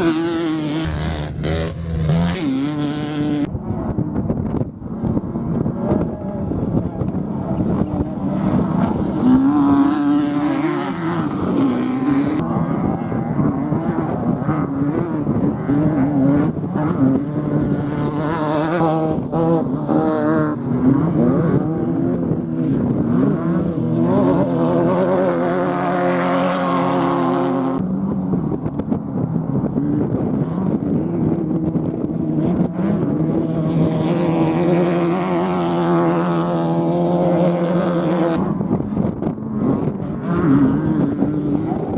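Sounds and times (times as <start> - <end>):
race vehicle engines accelerating: 0.0 - 41.9.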